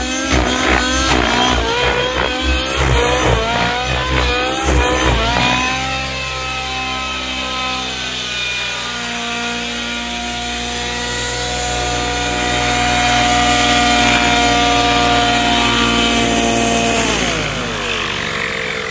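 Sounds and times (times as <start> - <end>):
model helicopter engine and rotor whine: 0.0 - 18.9.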